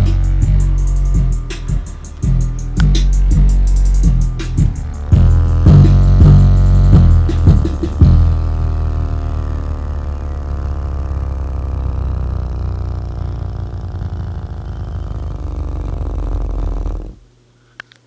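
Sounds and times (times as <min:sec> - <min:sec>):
subwoofer deep bass drone: 0:00.0 - 0:17.3.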